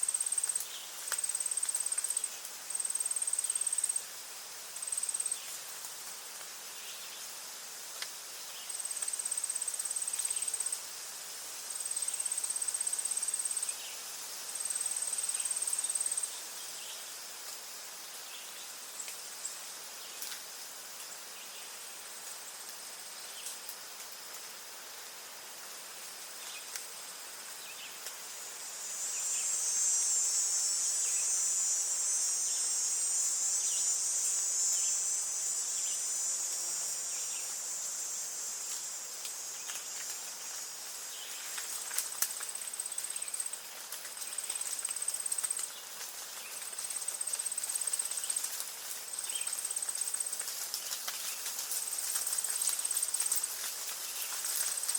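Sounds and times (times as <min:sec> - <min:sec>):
insects trilling: 0:00.0 - 0:54.9.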